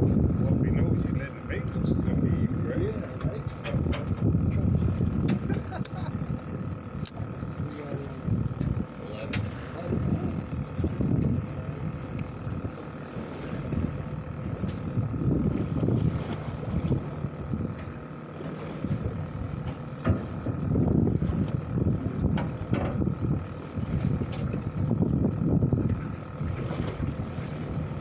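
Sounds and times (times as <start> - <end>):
wind buffeting microphone: 0.0 - 18.1, 18.7 - 28.0
faint steady hum: 0.0 - 28.0.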